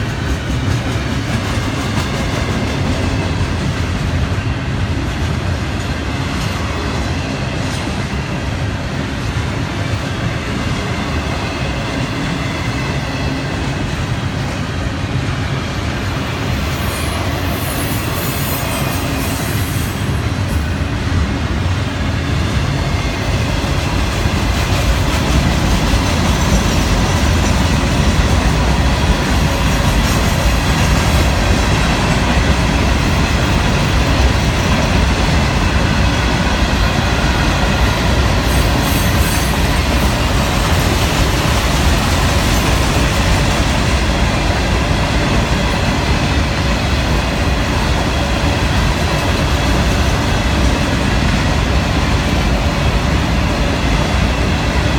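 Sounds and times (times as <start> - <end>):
freight train cars rolling past: 0.0 - 54.9.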